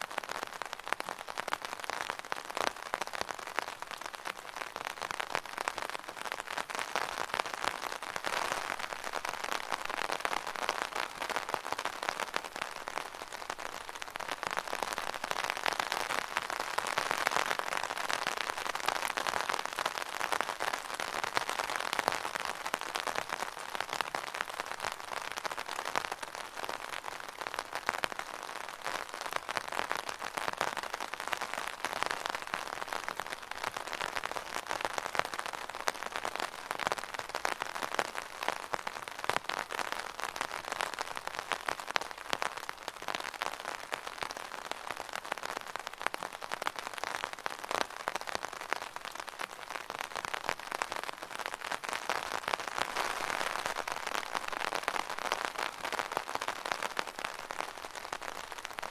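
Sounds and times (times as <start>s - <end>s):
rain pattering on an umbrella: 0.0s - 58.9s.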